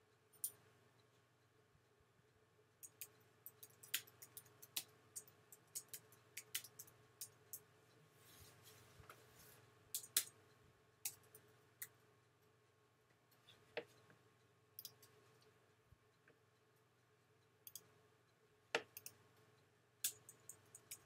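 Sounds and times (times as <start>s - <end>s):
faint keyboard typing: 2.8s - 12.5s, 13.2s - 18.1s, 18.8s - 21.0s.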